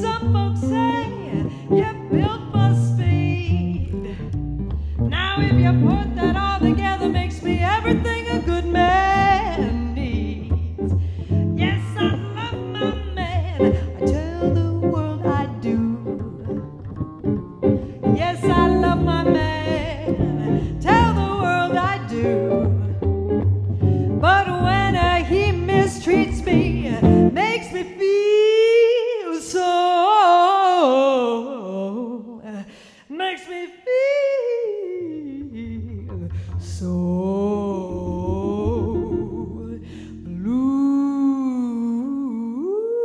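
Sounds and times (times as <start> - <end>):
bass: 0.0 - 27.8, 34.9 - 42.7
guitar: 0.0 - 31.5, 33.8 - 42.7
person singing with vibrato: 5.1 - 16.6, 17.6 - 23.1, 24.1 - 36.2, 36.8 - 43.0.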